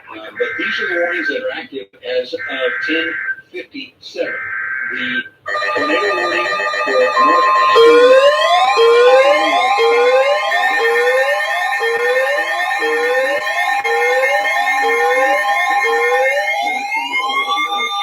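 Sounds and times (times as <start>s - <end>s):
siren whooping and wailing: 0.0s - 1.6s, 2.4s - 3.4s, 4.3s - 18.0s
steady alarm tones: 0.0s - 1.6s, 2.4s - 3.5s, 4.3s - 18.0s.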